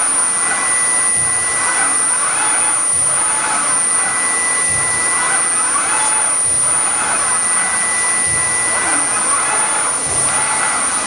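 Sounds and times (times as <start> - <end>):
spindle high whine: 0.0 - 11.0.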